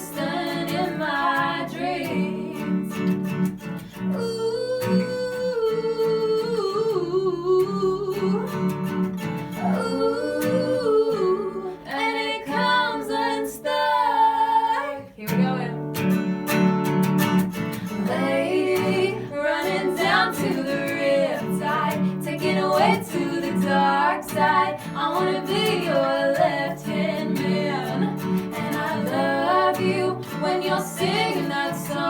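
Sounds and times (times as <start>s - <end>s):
women singing wordless ooh: 0.0s - 3.1s, 4.0s - 15.9s, 17.8s - 32.0s
strummed acoustic guitar: 0.0s - 32.0s.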